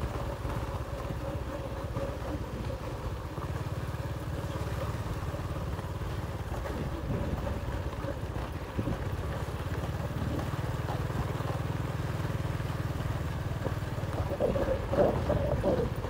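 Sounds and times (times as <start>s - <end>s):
motorbike engine running: 0.0s - 16.0s.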